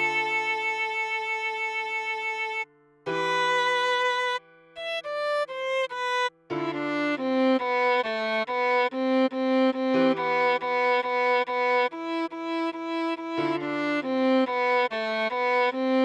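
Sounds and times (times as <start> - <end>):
viola melody: 0.0 - 16.0.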